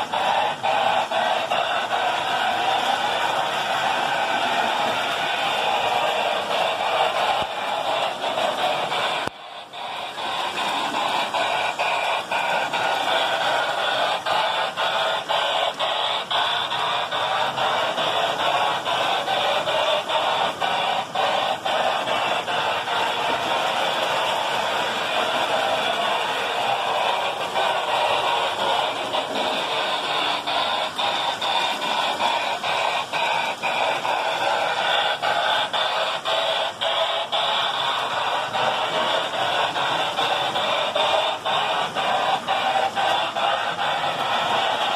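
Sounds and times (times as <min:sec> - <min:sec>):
electronic steam chuff: 0:00.0 - 0:44.9.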